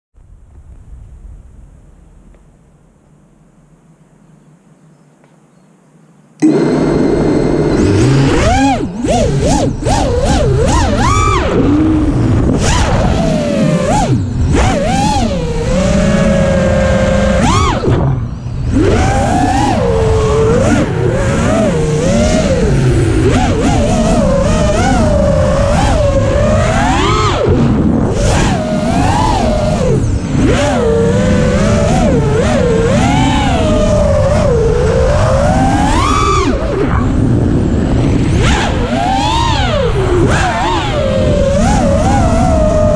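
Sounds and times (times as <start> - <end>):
drone motors whining: 6.4 - 42.9
rush of wind: 6.4 - 42.9.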